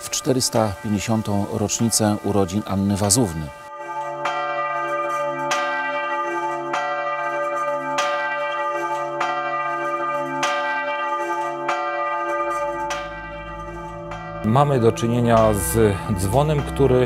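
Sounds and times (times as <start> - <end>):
church bell ringing: 0.0 - 17.0.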